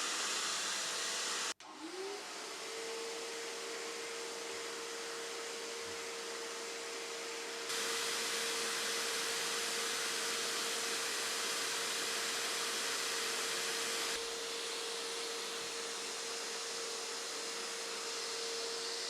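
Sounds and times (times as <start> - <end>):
upholstery cleaner motor hum: 0.0 - 19.0.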